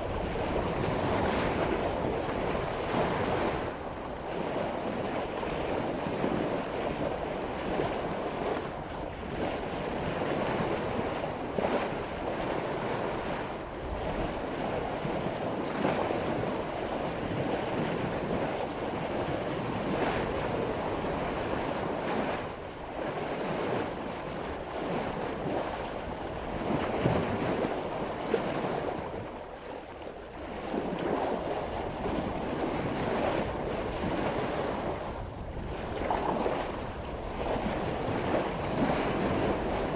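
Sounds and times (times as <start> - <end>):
wind buffeting microphone: 0.0 - 29.7, 30.3 - 39.9
water rushing along boat hull: 0.0 - 39.9.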